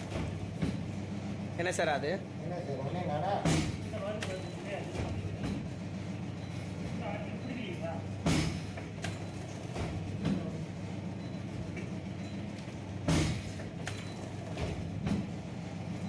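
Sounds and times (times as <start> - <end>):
packing machine humming: 0.0 - 16.0.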